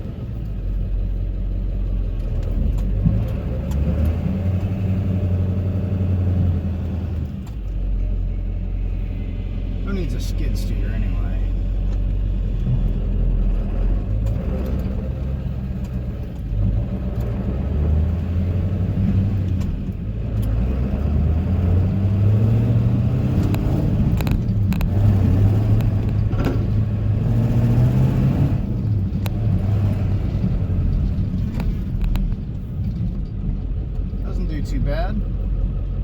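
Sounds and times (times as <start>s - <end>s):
diesel truck engine under load: 0.0s - 36.0s.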